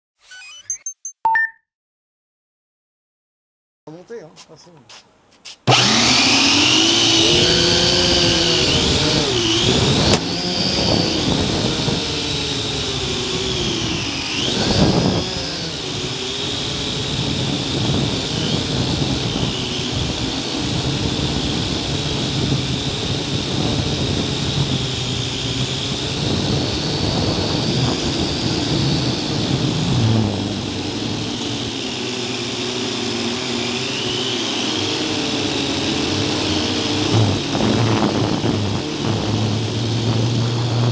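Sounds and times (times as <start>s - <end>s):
drone propellers whining: 5.6s - 40.9s.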